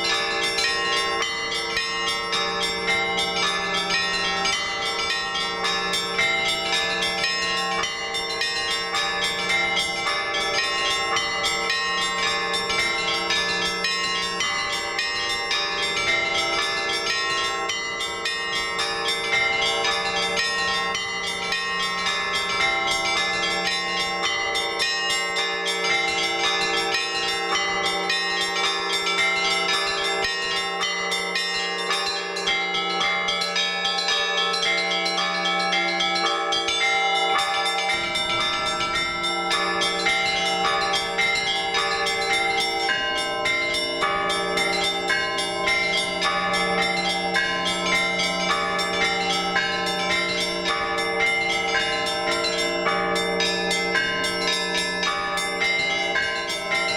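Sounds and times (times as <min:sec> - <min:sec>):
large bells ringing: 0:00.0 - 0:56.9.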